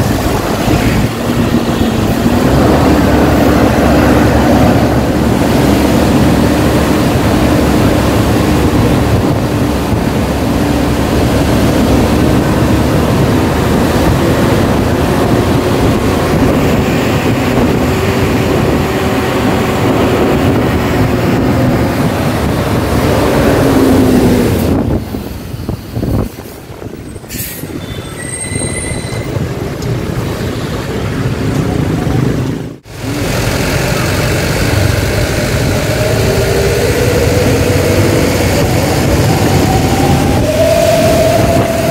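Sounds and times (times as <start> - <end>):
diesel bus engine: 0.0 - 41.9
road noise: 0.0 - 41.9.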